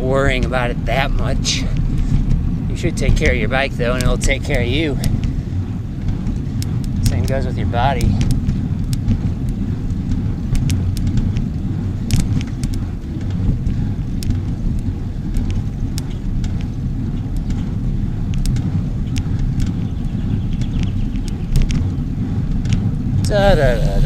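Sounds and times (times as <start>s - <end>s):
bike clicks and rattles: 0.0s - 23.8s
bicycle tyres on road: 0.0s - 24.0s
wind on microphone: 0.0s - 24.0s.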